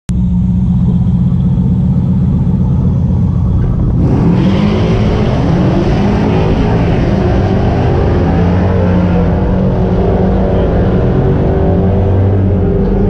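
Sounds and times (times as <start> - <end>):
car engines idling: 0.1 - 13.0.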